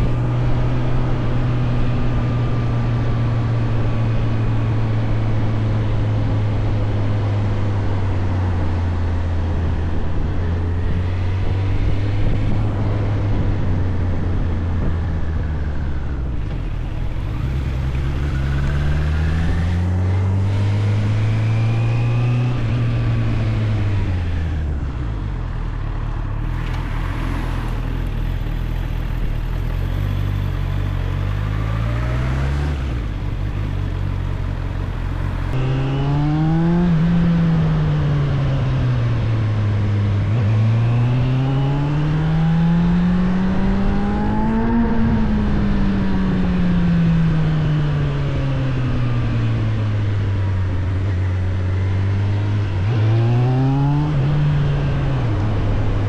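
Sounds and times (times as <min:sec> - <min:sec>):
motorcycle engine revving: 0:10.2 - 0:56.0.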